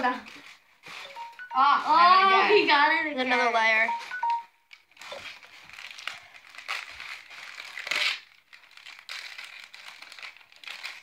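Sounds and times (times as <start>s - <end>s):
wrapping paper crinkling: 0.0s - 2.6s, 3.3s - 11.0s.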